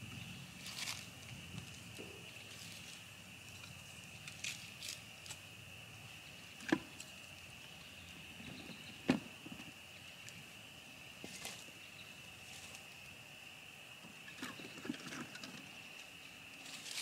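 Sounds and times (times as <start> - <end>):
frogs chirping: 0.0 - 17.0.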